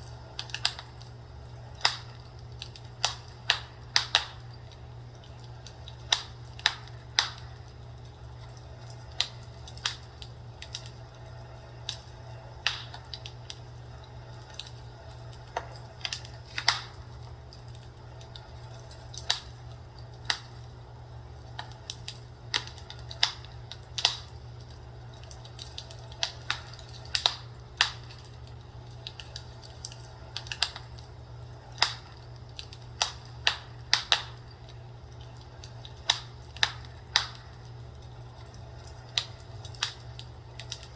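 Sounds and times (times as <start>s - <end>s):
fire crackling and popping: 0.0s - 40.9s
steady low hum: 0.0s - 40.9s.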